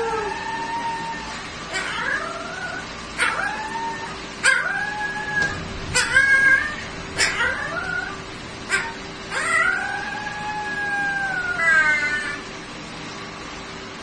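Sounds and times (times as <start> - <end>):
puppy howling: 0.0 - 12.5
puppy yelping: 0.0 - 12.5.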